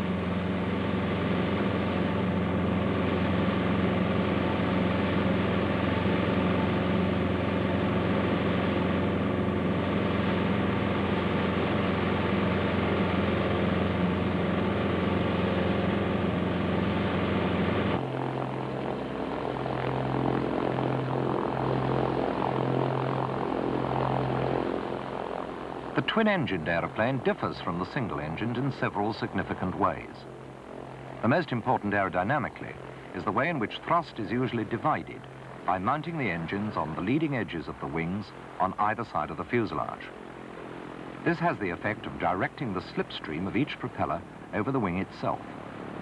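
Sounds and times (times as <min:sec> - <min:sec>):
propeller engine droning: 0:00.0 - 0:46.0
quieter aircraft engine throbbing: 0:00.0 - 0:46.0.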